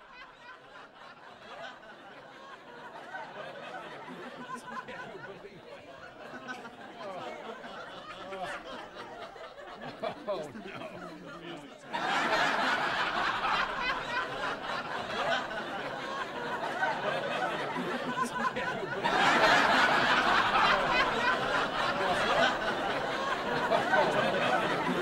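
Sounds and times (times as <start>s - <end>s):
sustained laughter: 0.0s - 25.0s.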